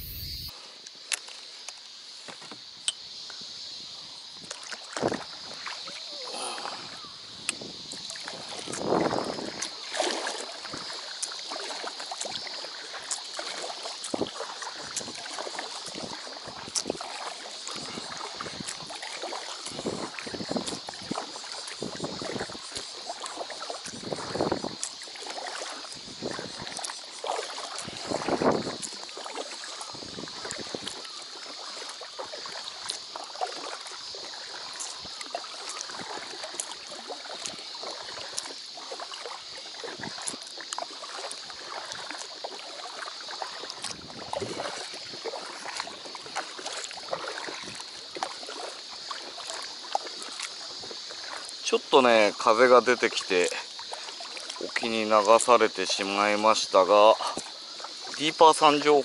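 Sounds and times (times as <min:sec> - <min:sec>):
waves lapping against hull: 0:00.0 - 0:59.0.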